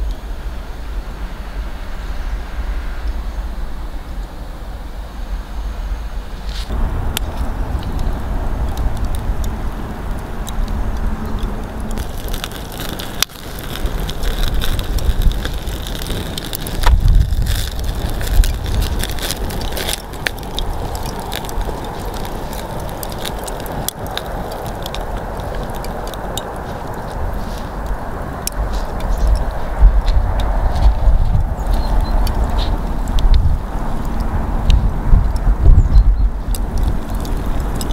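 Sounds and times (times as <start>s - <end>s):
low rumble: 0.0s - 37.9s
campfire crackling and popping: 6.5s - 37.9s.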